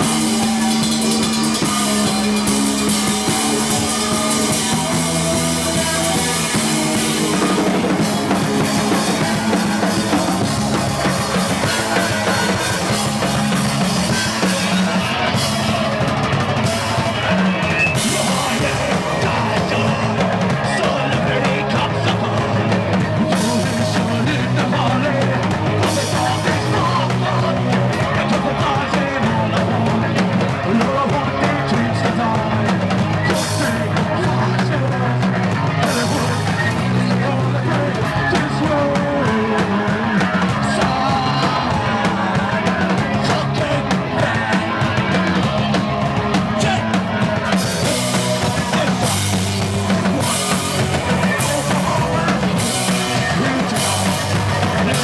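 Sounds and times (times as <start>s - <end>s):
person shouting singing: 0.0s - 55.0s
rock band playing: 0.0s - 55.0s.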